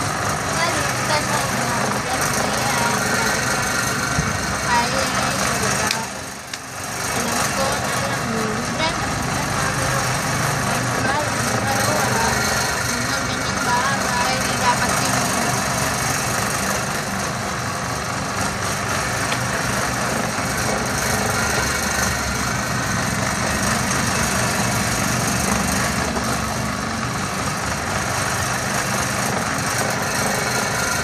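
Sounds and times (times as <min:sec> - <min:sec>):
small electric motor humming: 0:00.0 - 0:31.0.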